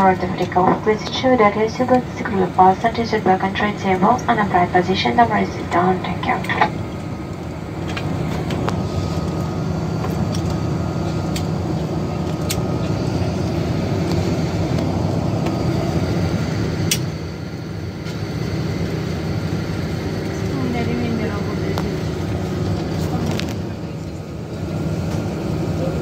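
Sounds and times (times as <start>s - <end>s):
jet cabin rumble: 0.0s - 26.0s.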